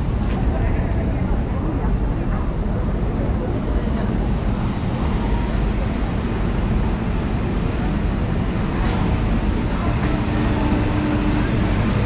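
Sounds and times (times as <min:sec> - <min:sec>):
passengers' voices: 0:00.0 - 0:12.0
train low rumble: 0:00.0 - 0:12.0.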